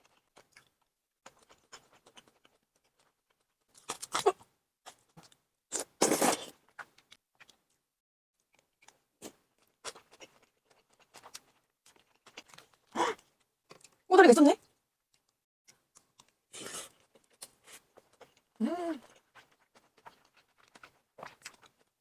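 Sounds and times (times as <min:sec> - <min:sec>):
soft chewing: 0:00.0 - 0:07.8, 0:08.4 - 0:22.0.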